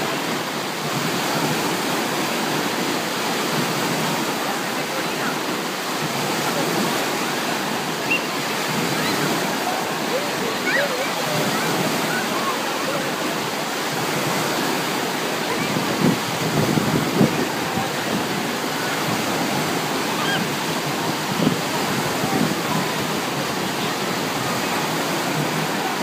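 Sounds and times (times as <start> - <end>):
distant voices of swimmers: 0.0 - 26.0
waves breaking: 0.0 - 26.0.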